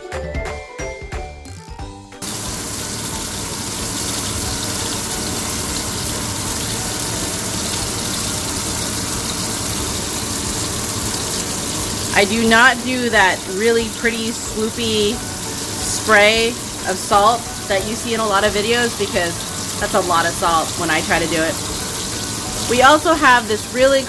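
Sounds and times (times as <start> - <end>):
background music: 0.0 - 24.0
kitchen exhaust fan rushing: 2.2 - 24.0
patties frying in oil: 2.2 - 24.0.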